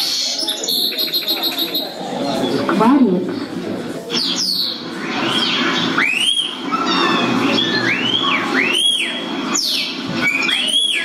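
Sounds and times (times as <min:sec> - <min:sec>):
recorded starling song: 0:00.0 - 0:02.7, 0:03.3 - 0:11.0.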